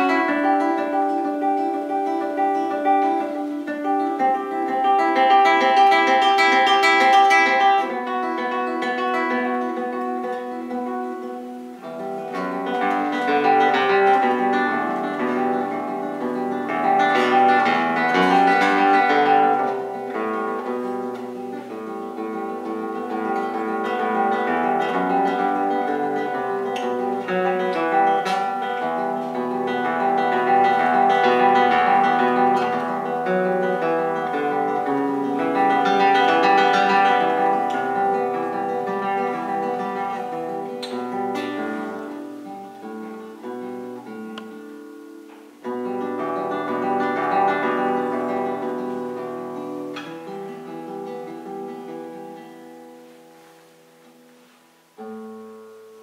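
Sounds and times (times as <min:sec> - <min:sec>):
classical guitar fingerpicking: 0:00.0 - 0:56.0.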